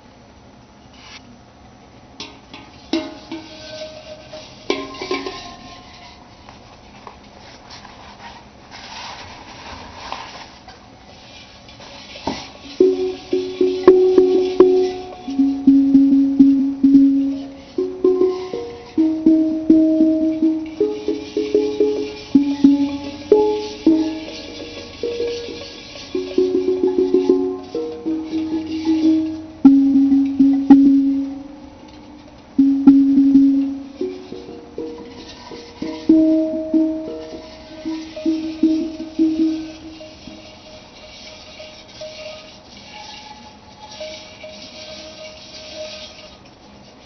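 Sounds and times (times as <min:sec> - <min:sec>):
steel pan notes ringing: 0:02.9 - 0:06.4, 0:12.5 - 0:47.0.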